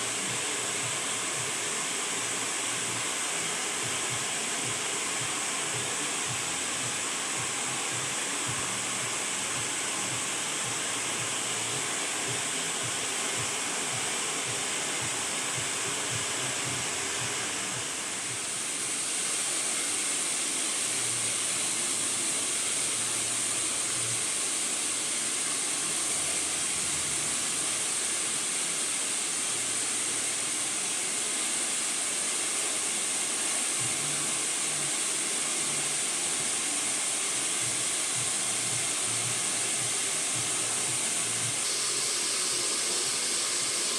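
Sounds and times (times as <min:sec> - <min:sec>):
hair dryer blowing: 0:00.0 - 0:43.9.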